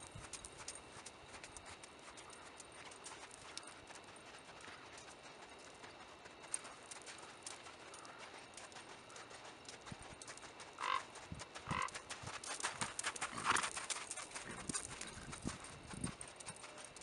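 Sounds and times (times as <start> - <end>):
hoofbeats on sand: 0.0 - 17.0.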